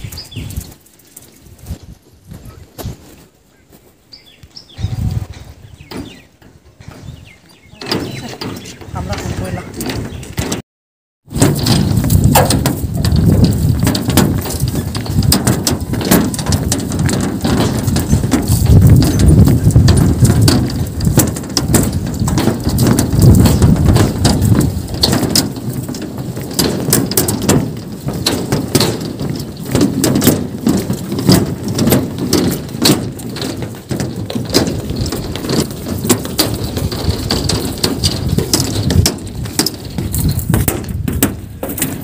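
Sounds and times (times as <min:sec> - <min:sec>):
wind buffeting microphone: 0:00.0 - 0:03.2, 0:04.1 - 0:10.6, 0:11.3 - 0:42.0
clicks and knocks from footbridge: 0:04.8 - 0:10.6, 0:11.3 - 0:42.0.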